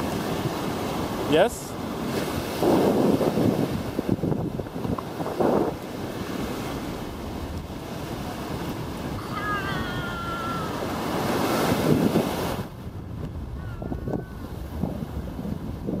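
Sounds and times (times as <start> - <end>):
surf washing on shore: 0.0 - 16.0
wind buffeting microphone: 0.0 - 16.0.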